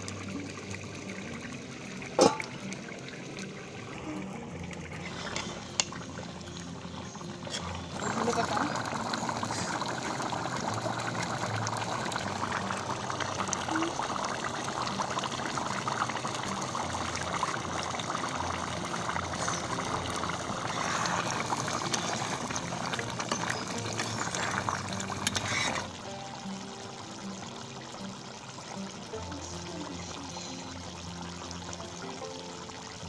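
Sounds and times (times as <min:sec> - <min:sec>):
curry boiling and bubbling: 0:00.0 - 0:33.0.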